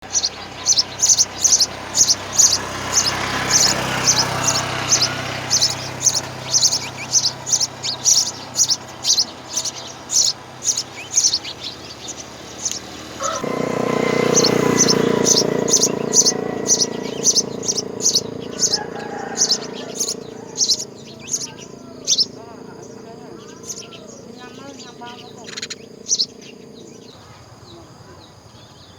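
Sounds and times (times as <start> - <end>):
bird chirping: 0.0 - 28.9
even rushing noise: 0.9 - 27.1.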